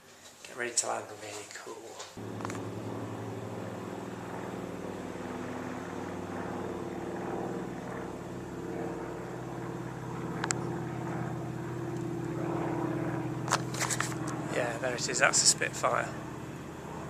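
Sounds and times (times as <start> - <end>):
piston plane engine droning: 2.2 - 17.0.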